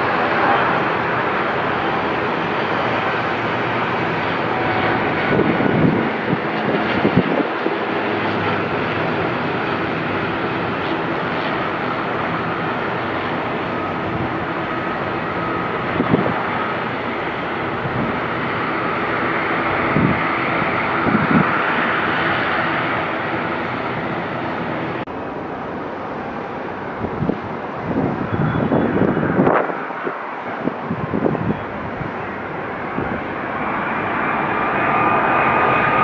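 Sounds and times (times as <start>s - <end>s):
airliner engines whining: 0.0s - 36.0s.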